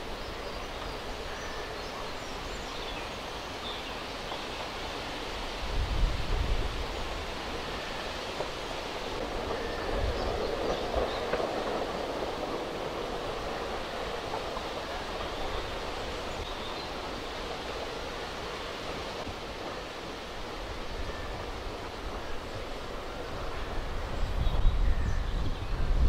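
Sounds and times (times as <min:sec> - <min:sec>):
steam train rumbling: 0:00.0 - 0:26.0.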